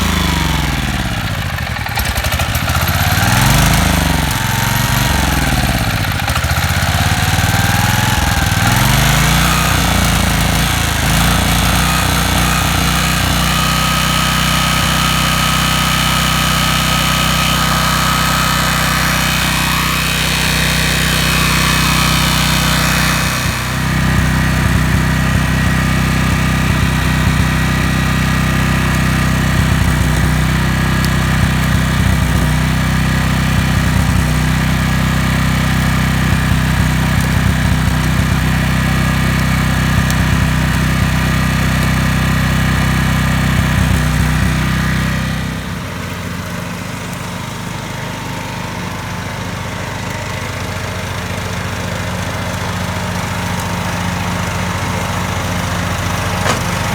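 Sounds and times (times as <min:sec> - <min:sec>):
generator engine running: 0:00.0 - 0:56.9.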